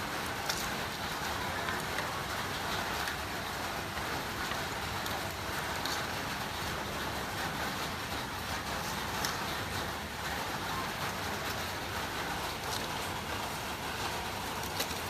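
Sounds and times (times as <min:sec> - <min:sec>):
faint crackles: 0:00.0 - 0:15.0
steady hissing noise: 0:00.0 - 0:15.0.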